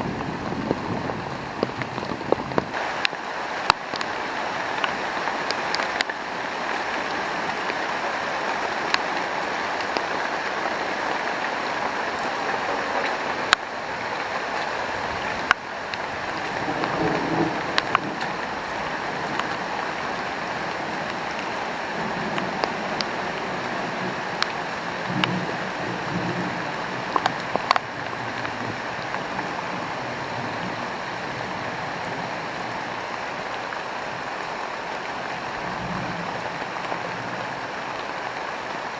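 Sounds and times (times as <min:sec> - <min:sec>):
heavy rain pouring: 0:00.0 - 0:38.9
raindrops tapping on surfaces: 0:00.0 - 0:38.9.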